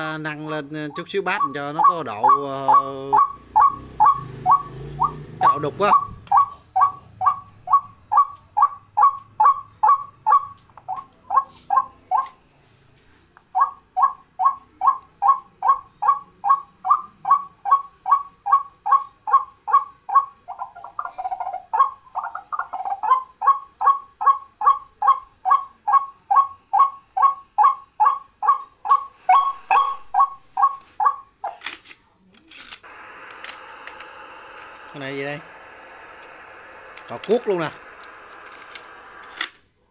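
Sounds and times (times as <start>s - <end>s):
recorded bird call notes: 0.0s - 12.4s, 13.4s - 38.3s.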